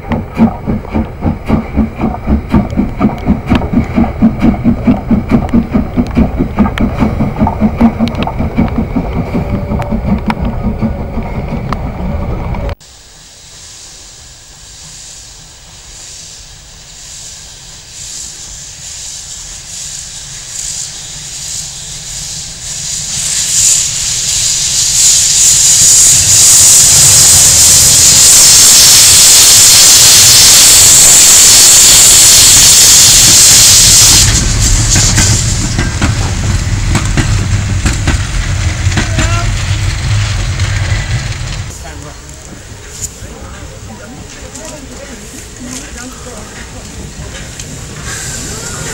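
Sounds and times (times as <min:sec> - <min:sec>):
train rumble: 0:00.0 - 0:12.9, 0:13.6 - 0:48.9
steam hissing: 0:00.0 - 0:48.9.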